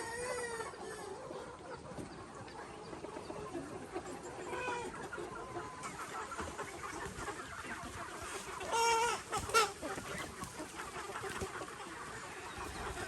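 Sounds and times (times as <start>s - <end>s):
chicken drawn-out call: 0.0s - 13.0s
chickens clucking: 0.0s - 13.0s.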